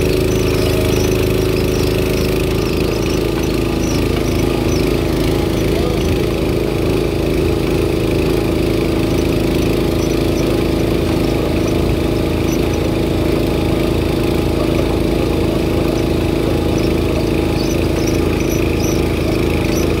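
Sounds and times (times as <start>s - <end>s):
trencher engine running under load: 0.0s - 20.0s.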